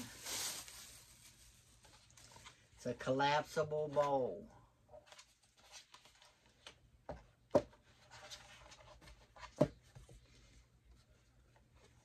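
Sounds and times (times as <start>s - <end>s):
rubbing and handling noise: 0.0s - 4.4s, 5.0s - 12.0s.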